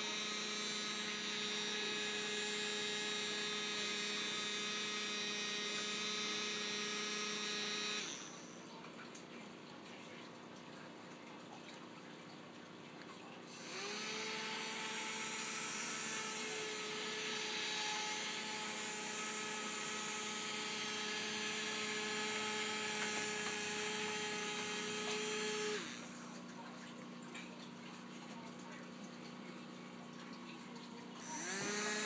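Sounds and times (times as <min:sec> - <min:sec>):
small motor and fan whirring: 0:00.0 - 0:32.0.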